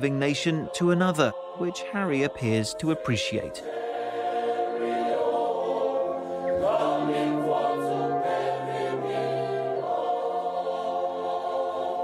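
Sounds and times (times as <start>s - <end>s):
boys choir singing in harmony: 0.0s - 12.0s.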